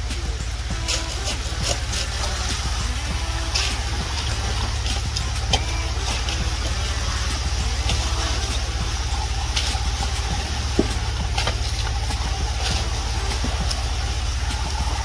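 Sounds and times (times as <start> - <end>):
concrete pump engine drone: 0.0 - 15.0.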